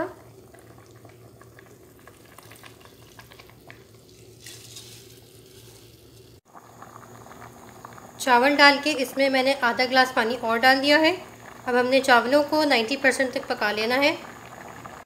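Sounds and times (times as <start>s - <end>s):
broth bubbling: 0.0s - 15.0s.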